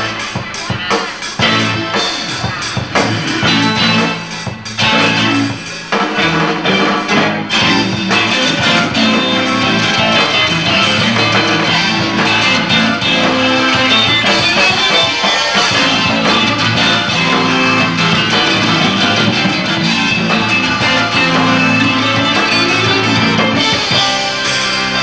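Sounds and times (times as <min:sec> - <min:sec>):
drums: 0:00.0 - 0:25.0
electric guitar: 0:00.0 - 0:25.0
rock band playing: 0:00.0 - 0:25.0.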